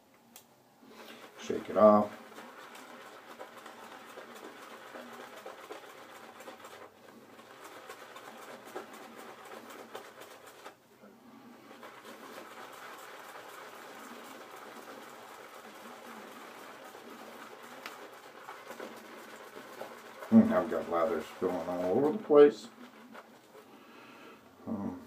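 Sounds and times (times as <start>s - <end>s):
shaving brush scrubbing lather: 0.9s - 24.5s.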